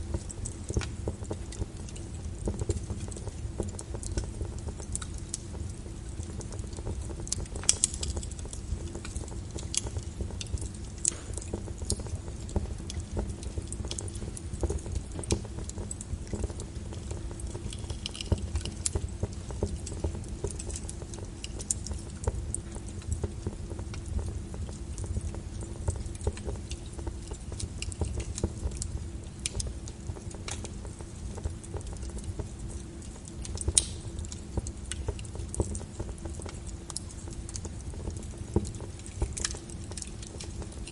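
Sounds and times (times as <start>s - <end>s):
low steady rumble: 0.0s - 40.9s
wood fire crackling: 0.0s - 40.9s.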